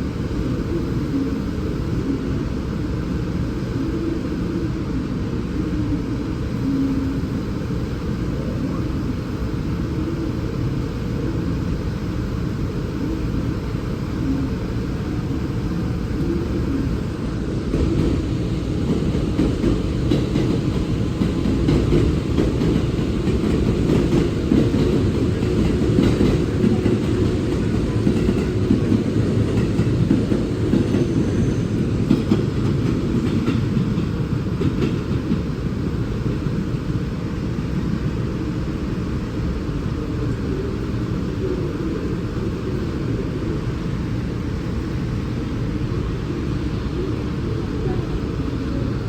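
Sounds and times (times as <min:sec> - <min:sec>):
train rumbling on tracks: 0:00.0 - 0:49.0.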